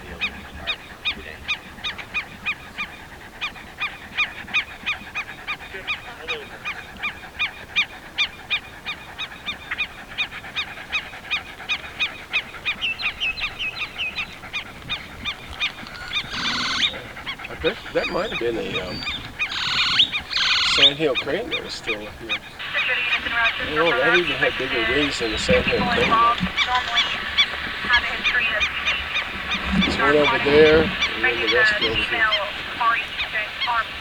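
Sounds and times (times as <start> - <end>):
water bird nasal calls: 0.0 - 34.0.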